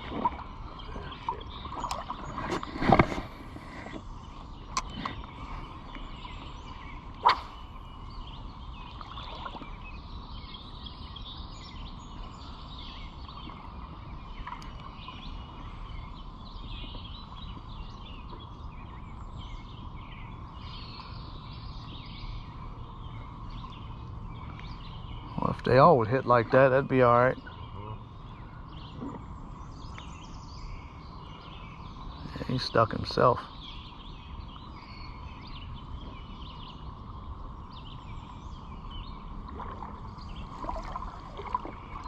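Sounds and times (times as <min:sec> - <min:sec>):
bird chirps: 0:00.1 - 0:42.0.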